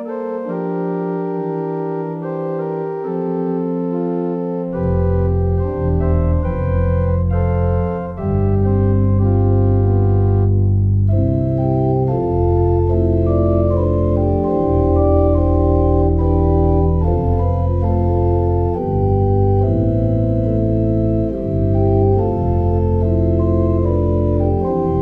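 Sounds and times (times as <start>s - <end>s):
organ playing slow hymn-like piece: 0.0s - 25.0s.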